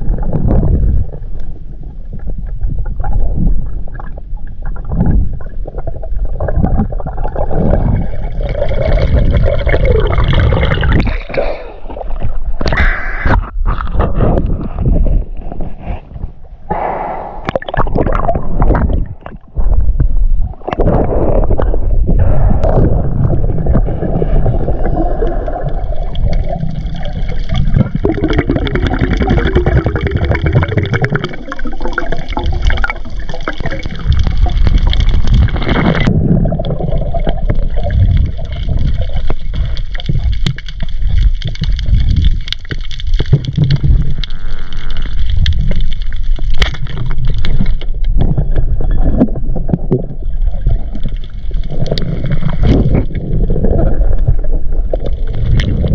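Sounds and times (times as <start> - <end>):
underwater rushing and gurgling: 0.0 - 55.9.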